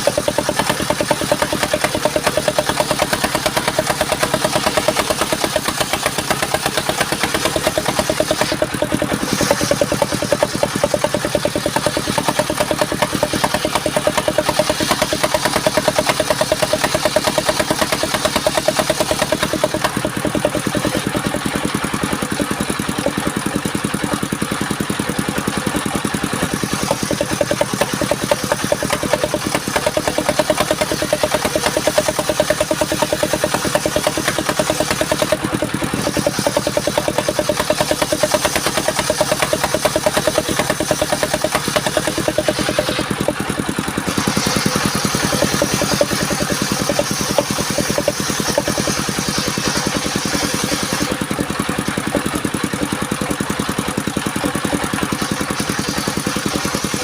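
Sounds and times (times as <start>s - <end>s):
saw engine running: 0.0s - 57.0s.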